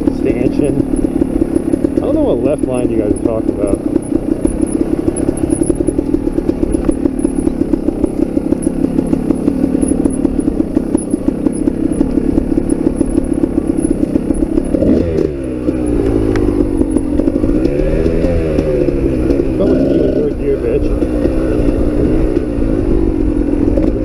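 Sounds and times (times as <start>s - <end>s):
dirt bike engine idling and revving: 0.0s - 24.0s.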